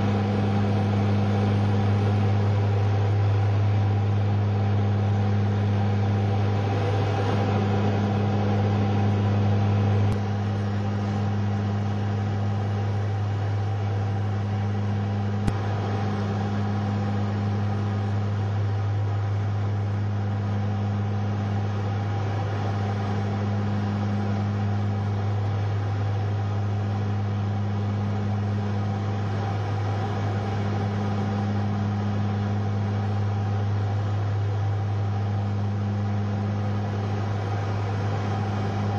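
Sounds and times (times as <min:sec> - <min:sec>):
propeller engines droning: 0:00.0 - 0:38.9.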